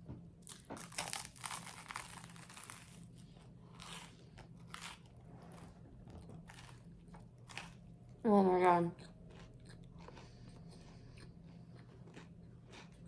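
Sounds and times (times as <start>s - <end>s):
crunching and chewing bread: 0.4s - 13.0s.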